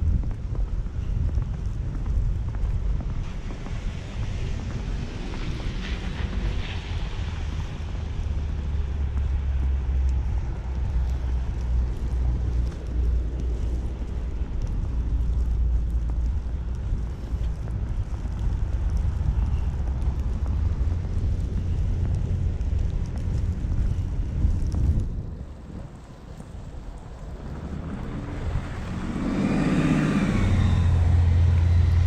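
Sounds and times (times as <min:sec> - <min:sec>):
city street noise: 0:00.0 - 0:32.0
wind buffeting microphone: 0:00.0 - 0:32.0.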